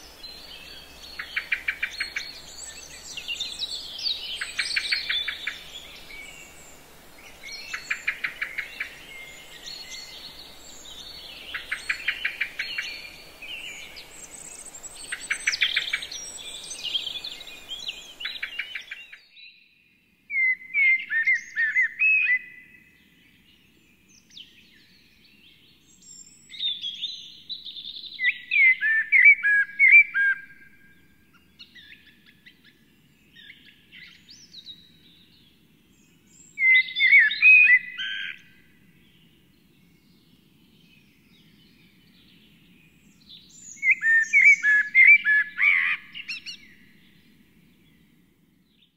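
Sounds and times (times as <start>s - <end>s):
background hiss: 0.0s - 22.0s, 22.6s - 48.9s
songbird trilling songs: 0.0s - 48.9s.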